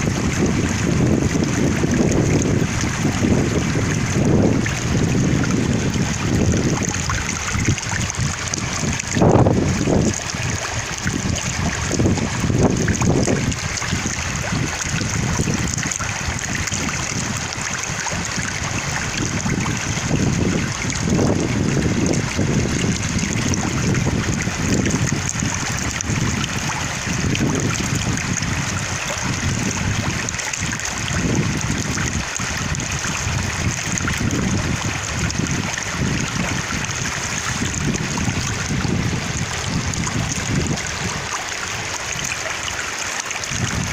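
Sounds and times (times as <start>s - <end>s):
wind gusting on microphone: 0.0s - 42.5s, 43.4s - 43.9s
stream of water flowing: 0.0s - 43.9s.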